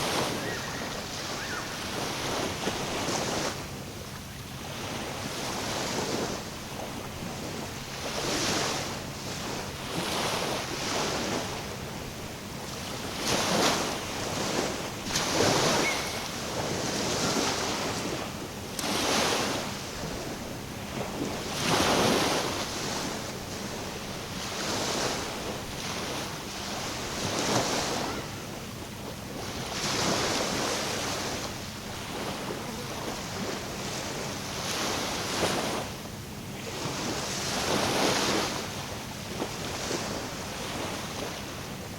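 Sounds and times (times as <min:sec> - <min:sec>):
small waves washing in: 0:00.0 - 0:41.9.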